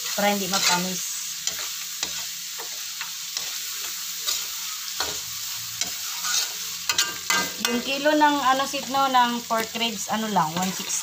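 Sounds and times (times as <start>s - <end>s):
spatula scraping a pan: 0.0s - 9.8s, 10.4s - 11.0s
food sizzling in a wok: 0.0s - 11.0s.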